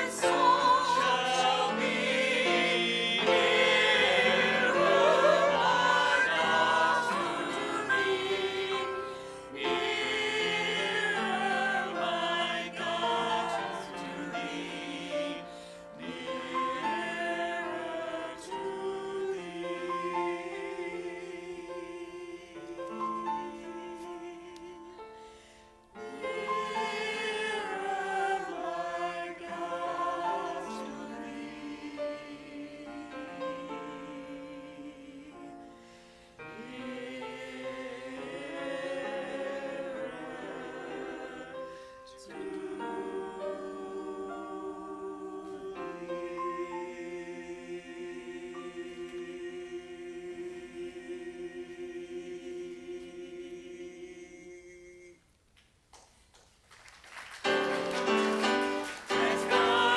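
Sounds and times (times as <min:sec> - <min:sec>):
voices singing a hymn: 0:00.0 - 0:55.4, 0:57.4 - 0:59.9.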